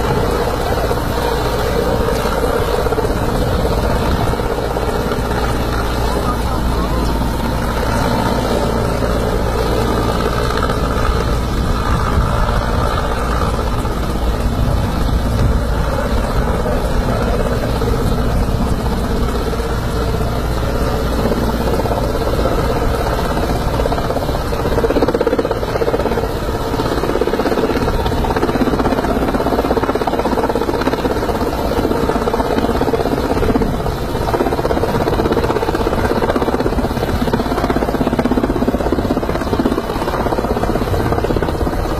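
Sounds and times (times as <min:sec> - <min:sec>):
helicopter rotor and engine: 0:00.0 - 0:41.9.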